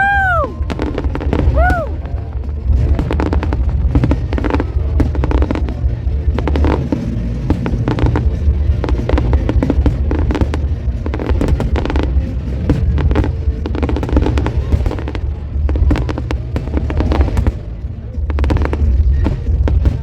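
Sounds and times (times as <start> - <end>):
fireworks bangs and crackles: 0.0 - 20.0
low rumble: 0.0 - 20.0.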